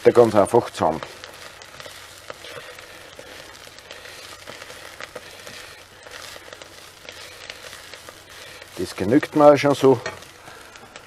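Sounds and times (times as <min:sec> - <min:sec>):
garlic and onion sizzling in oil: 0:00.0 - 0:11.0
utensil stirring clicks and scrapes: 0:00.1 - 0:11.0.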